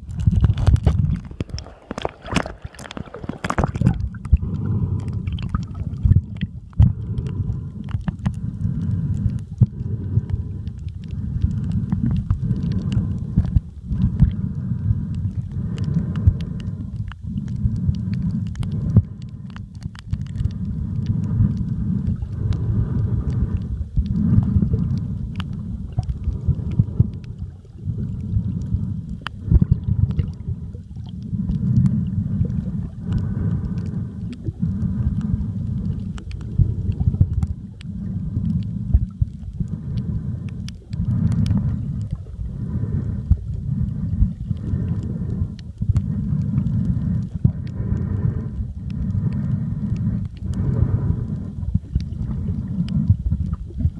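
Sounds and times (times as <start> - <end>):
underwater rumble of moving water: 0.0 - 53.9.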